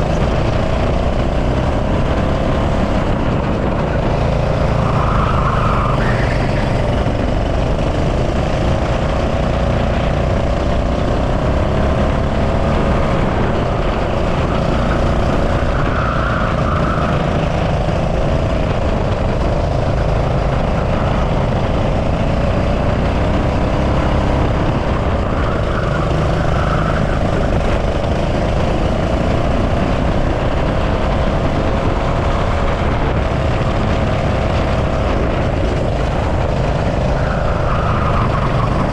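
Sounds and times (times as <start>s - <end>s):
go-kart engine racing: 0.0s - 38.9s.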